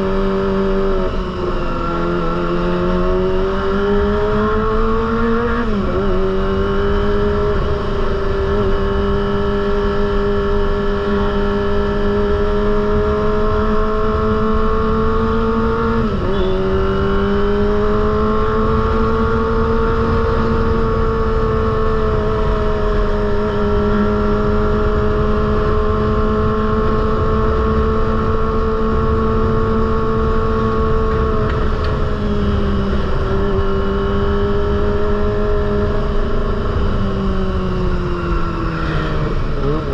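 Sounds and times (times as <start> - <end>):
motorcycle engine high pitch: 0.0 - 39.9.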